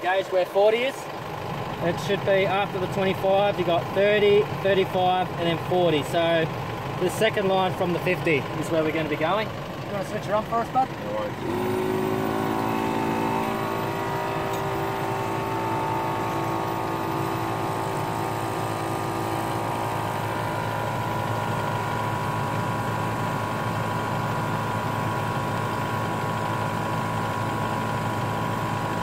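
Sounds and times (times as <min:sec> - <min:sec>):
air compressor running: 0:01.0 - 0:29.0.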